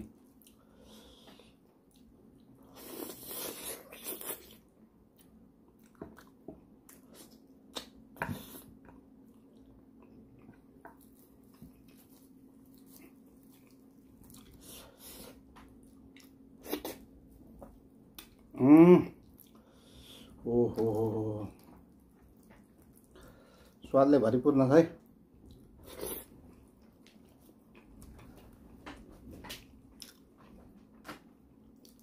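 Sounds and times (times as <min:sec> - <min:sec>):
wet chewing and smacking: 0:01.4 - 0:14.8, 0:15.4 - 0:18.5, 0:20.8 - 0:23.3, 0:25.0 - 0:32.0.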